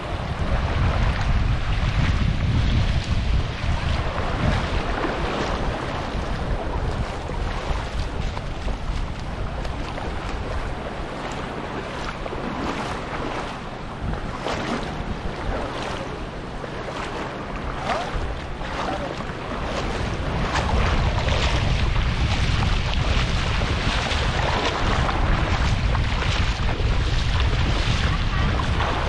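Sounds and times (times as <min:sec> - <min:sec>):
seawater splashing and lapping: 0:00.0 - 0:29.0
wind buffeting microphone: 0:00.0 - 0:29.0.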